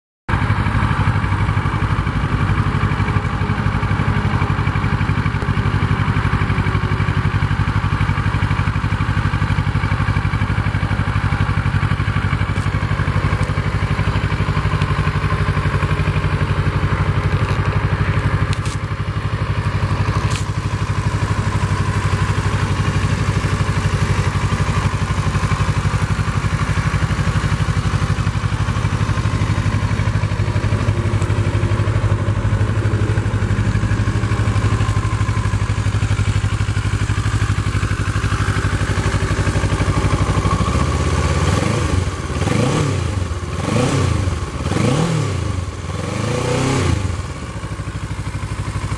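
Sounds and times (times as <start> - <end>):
motorcycle engine idling and revving: 0.3 - 48.9.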